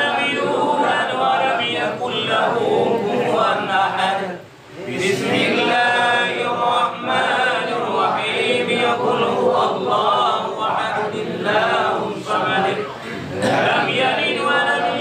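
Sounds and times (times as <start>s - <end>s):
men chanting prayers in unison: 0.0s - 15.0s.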